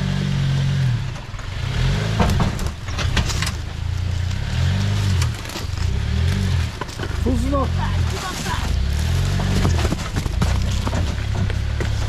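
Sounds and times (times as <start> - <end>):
off-road vehicle engine pulling: 0.0 - 12.0
knocks and clatter: 1.0 - 12.0.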